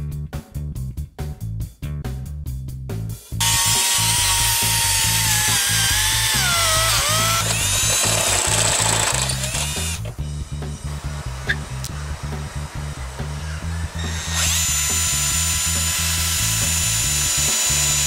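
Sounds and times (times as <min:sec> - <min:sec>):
background music with steady beat: 0:00.0 - 0:18.0
cordless drill motor whine: 0:03.4 - 0:18.0.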